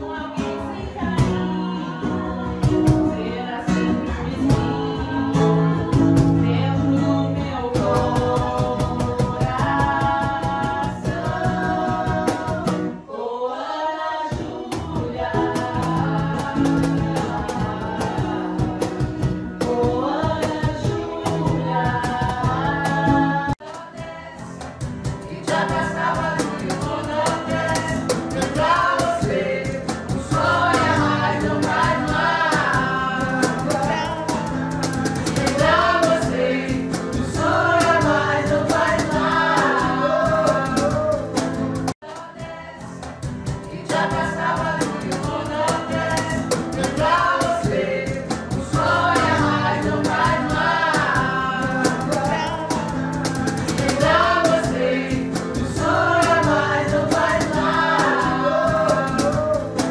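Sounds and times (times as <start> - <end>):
song with sung vocals: 0.0 - 59.9.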